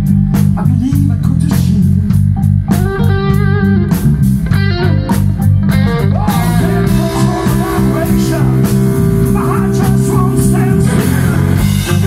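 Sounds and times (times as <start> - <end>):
bass: 0.0 - 12.0
drums: 0.0 - 12.0
electric guitar lead: 0.0 - 12.0.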